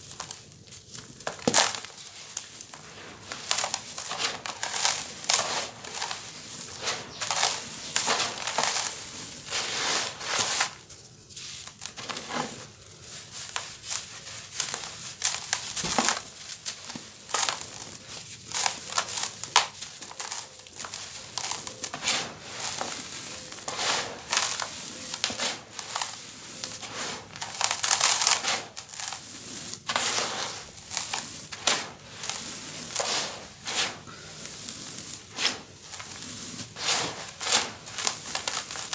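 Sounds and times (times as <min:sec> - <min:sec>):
dry sand crunching by hand: 0:00.0 - 0:38.9.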